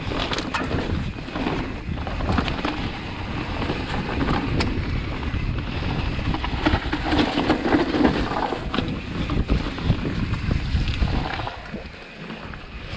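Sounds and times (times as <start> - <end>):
bike clattering over bumps: 0.0 - 12.9
bike tyre noise: 0.0 - 12.9
wind buffeting microphone: 0.0 - 12.9.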